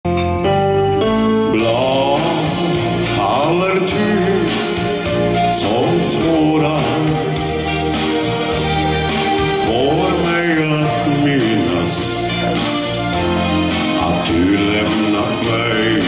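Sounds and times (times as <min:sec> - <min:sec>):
bass: 0:00.0 - 0:16.0
wavering lead melody: 0:00.1 - 0:16.0
steady beat: 0:01.6 - 0:16.0.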